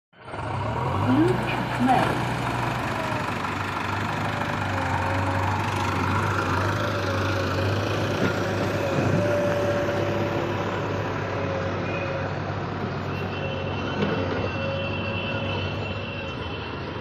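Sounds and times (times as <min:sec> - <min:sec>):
diesel engine running: 0:00.2 - 0:17.0.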